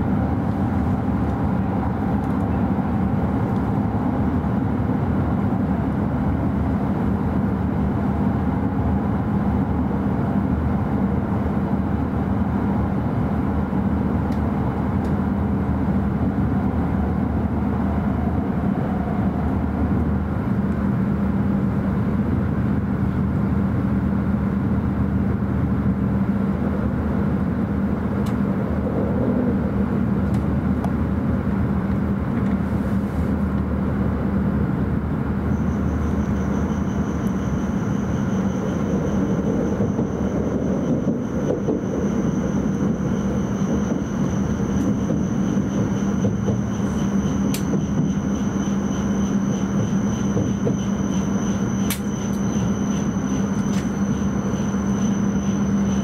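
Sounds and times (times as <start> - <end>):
constant low hum: 0.0 - 56.0
train cabin rumble: 0.0 - 56.0.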